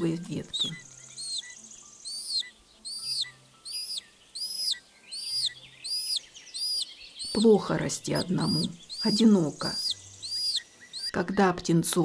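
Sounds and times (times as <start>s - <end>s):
buzzard chick calling: 0.4s - 11.4s.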